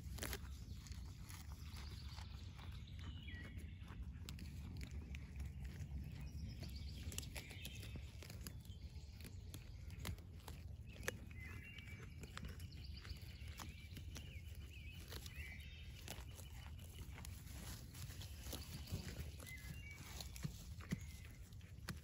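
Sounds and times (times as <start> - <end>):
goats tearing grass: 0.0 - 22.0.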